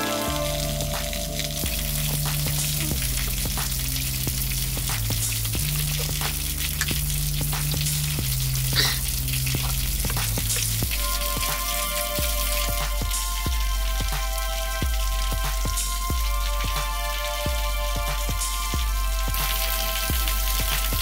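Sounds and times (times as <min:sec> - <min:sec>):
low bass notes: 0:00.0 - 0:21.0
steady hiss: 0:00.0 - 0:21.0.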